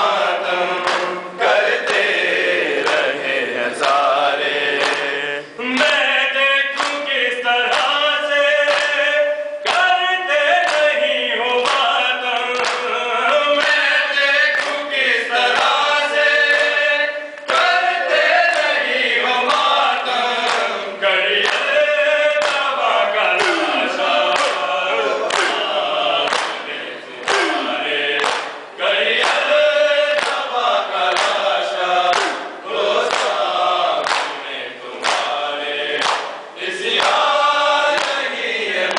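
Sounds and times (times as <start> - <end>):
men reciting in unison: 0.0 - 38.9.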